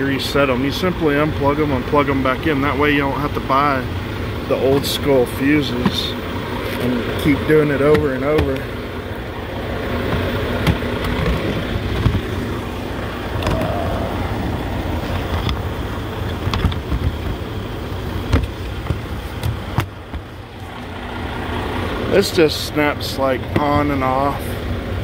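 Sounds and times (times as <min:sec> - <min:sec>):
low rumble in cab: 0:00.0 - 0:25.0.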